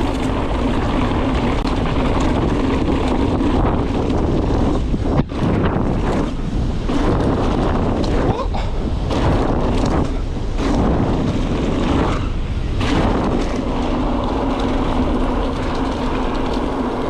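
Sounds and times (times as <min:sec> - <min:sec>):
bike tyres rumbling on gravel: 0:00.0 - 0:17.0
wind blasting across microphone: 0:00.0 - 0:17.0.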